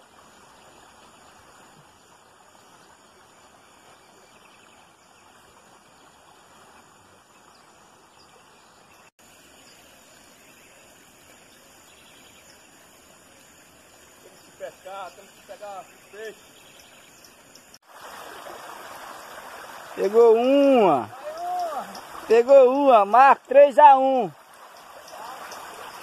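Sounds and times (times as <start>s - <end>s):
creek water flowing over stones: 0.0s - 26.0s.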